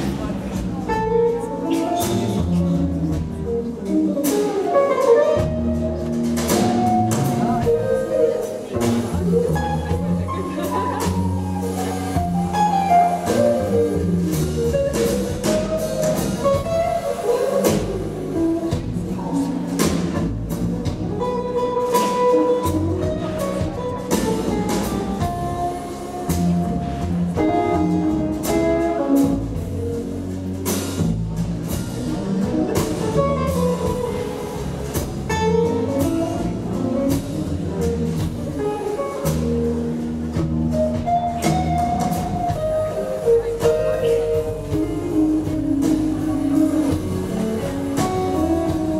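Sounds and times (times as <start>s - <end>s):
drums and cymbals: 0.0s - 48.9s
electric guitar melody: 0.0s - 48.9s
plucked double bass: 0.0s - 48.9s.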